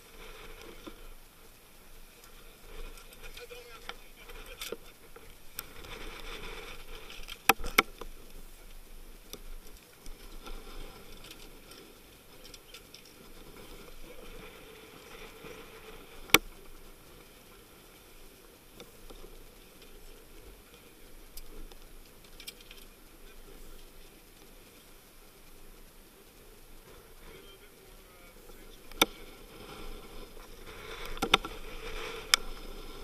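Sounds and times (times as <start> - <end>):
sea noise: 0.0 - 33.0
wind: 0.0 - 33.0.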